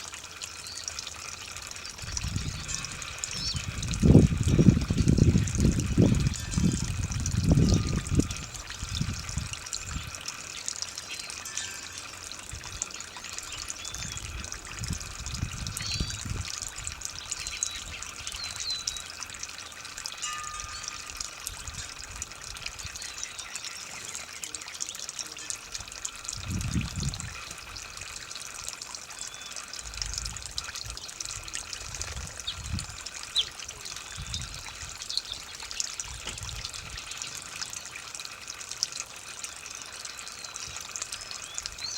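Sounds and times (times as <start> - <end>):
hose water trickling on ground: 0.0 - 41.9.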